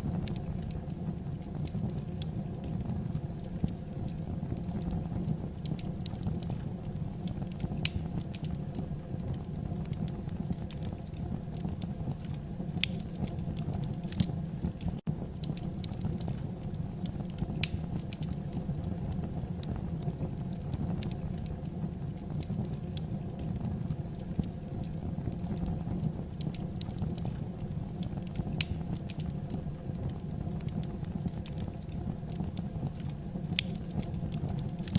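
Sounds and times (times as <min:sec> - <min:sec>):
fire crackles and pops: 0:00.0 - 0:34.9
low rumble of fire flames: 0:00.0 - 0:34.9.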